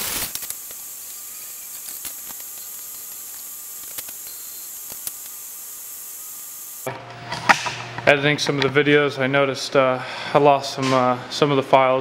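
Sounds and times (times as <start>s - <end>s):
faint constant whine: 0.2s - 10.2s.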